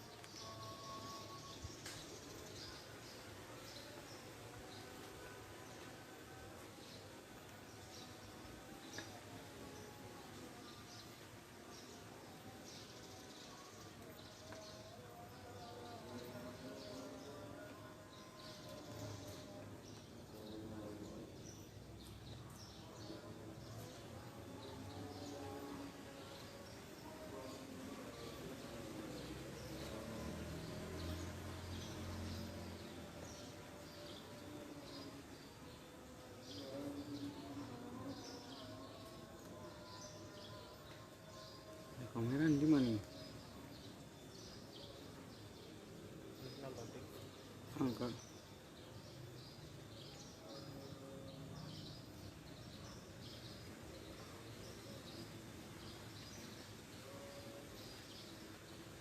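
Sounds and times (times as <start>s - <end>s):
bird chirping: 0.0s - 59.0s
faint garden ambience: 0.0s - 59.0s.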